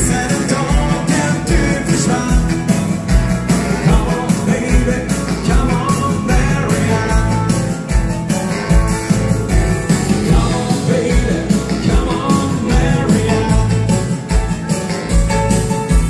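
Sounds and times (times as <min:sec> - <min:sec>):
live rock and roll band: 0:00.0 - 0:16.0.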